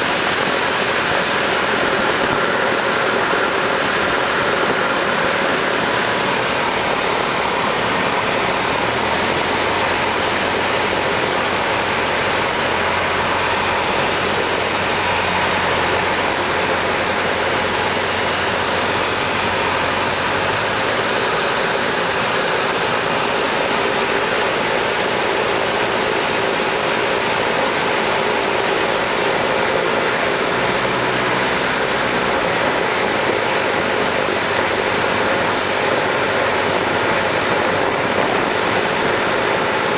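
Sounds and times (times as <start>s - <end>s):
propeller plane engine: 0.0s - 39.9s
rushing air noise: 0.0s - 39.9s.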